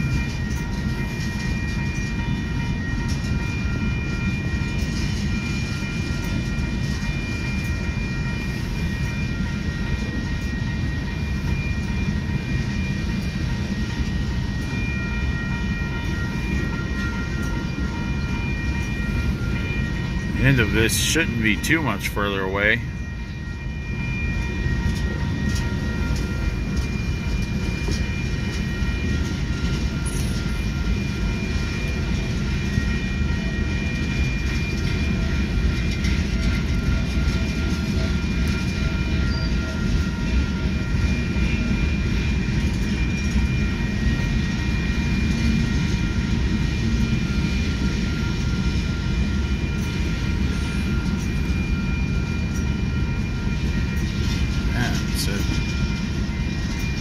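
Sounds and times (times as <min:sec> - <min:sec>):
faint high whine: 0:00.0 - 0:57.0
train wheels rumbling on rails: 0:00.0 - 0:57.0.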